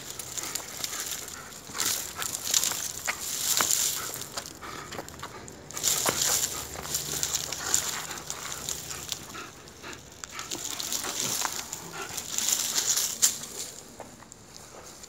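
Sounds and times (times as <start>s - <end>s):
dry palm frond rustling: 0.0s - 15.0s.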